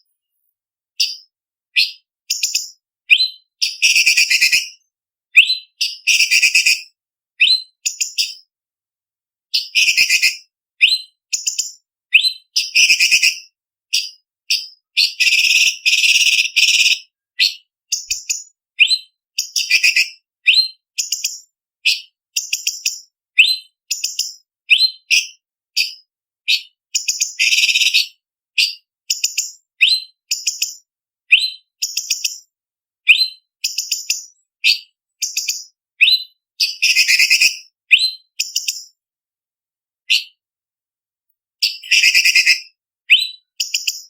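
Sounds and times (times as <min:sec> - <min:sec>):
bird singing varied song: 0:00.0 - 0:08.5, 0:09.5 - 0:32.5, 0:33.1 - 0:39.0, 0:40.0 - 0:40.4, 0:41.6 - 0:44.0.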